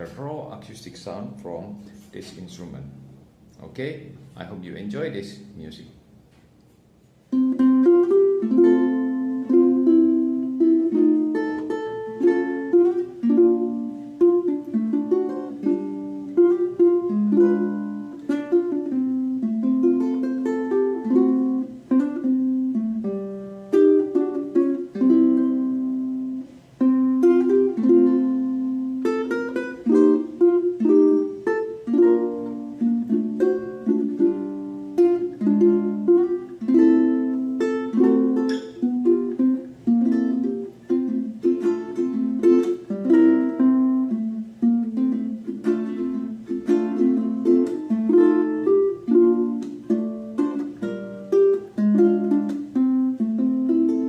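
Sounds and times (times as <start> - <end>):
ukulele fingerstyle chords and melody: 7.0 - 54.0.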